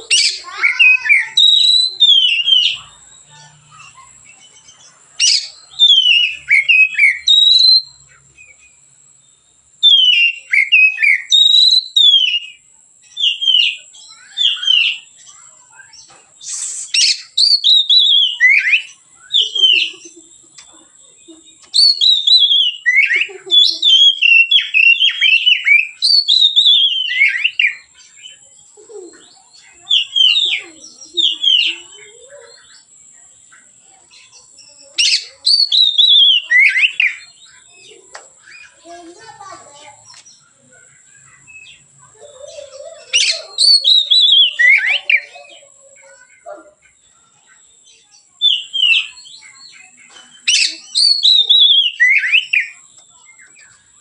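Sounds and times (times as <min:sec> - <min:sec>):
bird singing whistled notes: 0:00.0 - 0:20.5, 0:21.3 - 0:38.9, 0:39.8 - 0:54.0.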